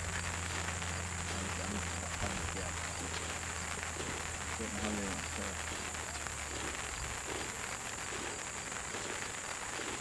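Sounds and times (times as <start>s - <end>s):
light rain pattering: 0.0s - 10.0s.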